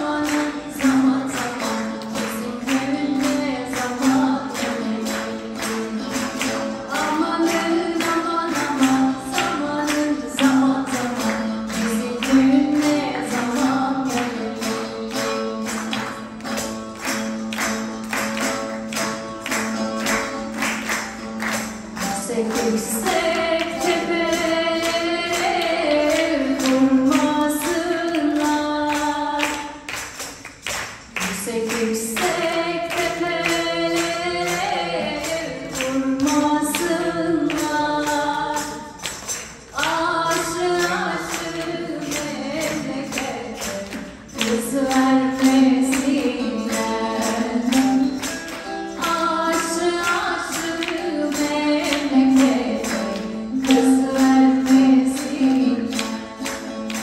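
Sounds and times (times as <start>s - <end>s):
woman singing: 0.0s - 17.2s, 22.0s - 30.1s, 31.2s - 57.0s.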